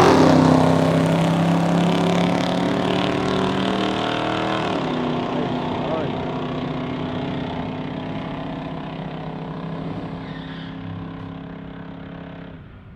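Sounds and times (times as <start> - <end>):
drag car engine running: 0.0 - 12.9.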